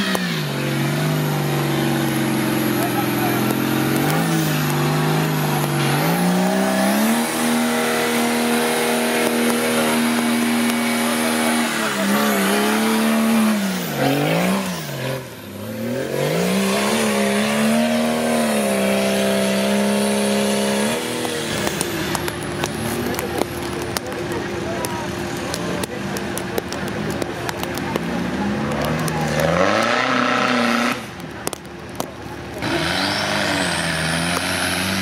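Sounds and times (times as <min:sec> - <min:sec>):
buggy engine revving: 0:00.0 - 0:35.0
tyres spinning in mud: 0:00.0 - 0:35.0.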